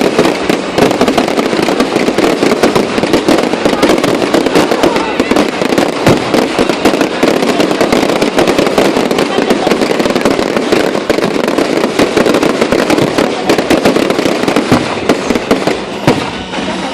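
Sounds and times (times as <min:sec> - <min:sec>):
fireworks crackling: 0:00.0 - 0:16.9.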